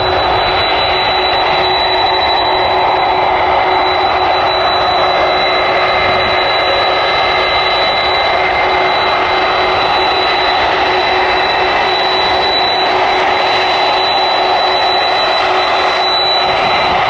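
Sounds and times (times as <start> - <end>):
high whining tones: 0.0 - 17.0
jet engines roaring: 0.0 - 17.0.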